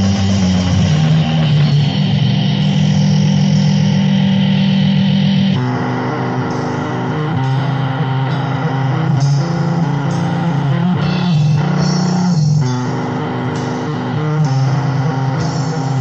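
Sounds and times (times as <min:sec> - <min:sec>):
distorted electric guitar riff: 0:00.0 - 0:16.0.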